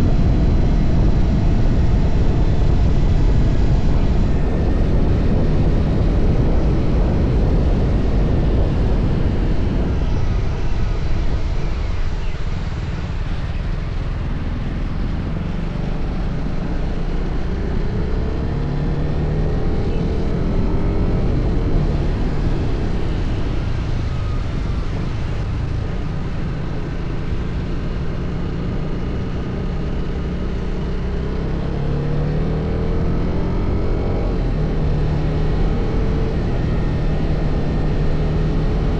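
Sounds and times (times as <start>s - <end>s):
motorcycle engine at speed: 0.0s - 38.9s
wind noise: 0.0s - 38.9s.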